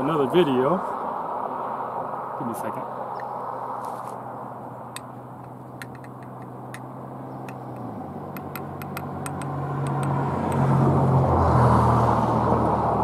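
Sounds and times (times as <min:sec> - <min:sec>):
vehicle passing by: 0:00.7 - 0:13.0.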